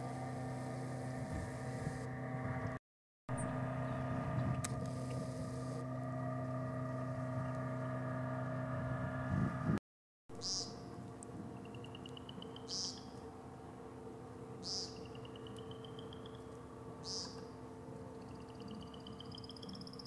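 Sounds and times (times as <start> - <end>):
low engine hum: 0.0 - 9.8, 10.4 - 20.0.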